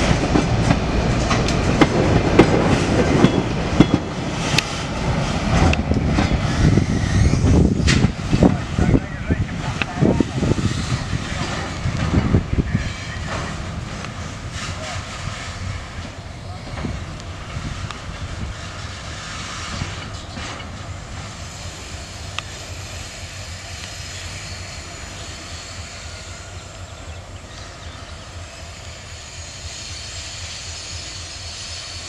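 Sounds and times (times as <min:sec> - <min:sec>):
locomotive engine rumble: 0:00.0 - 0:32.0.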